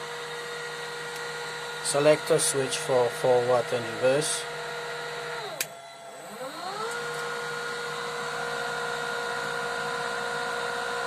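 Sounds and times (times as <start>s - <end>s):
electric motor whine: 0.0s - 11.0s.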